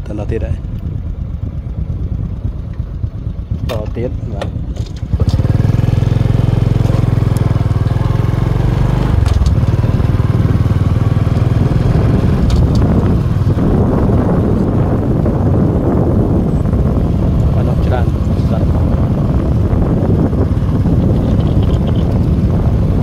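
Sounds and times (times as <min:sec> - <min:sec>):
noisy rush: 0:00.0 - 0:23.0
small motorbike engine running: 0:00.3 - 0:23.0.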